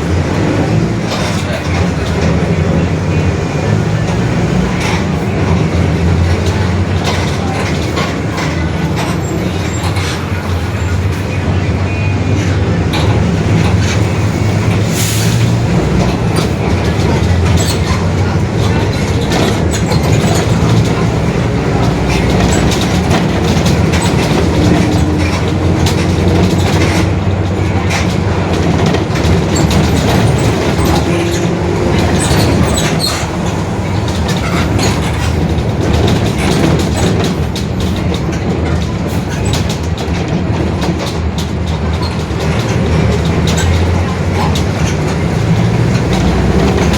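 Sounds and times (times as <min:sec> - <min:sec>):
bus body rattles and clicks: 0:00.0 - 0:46.9
bus differential growling: 0:00.0 - 0:46.9.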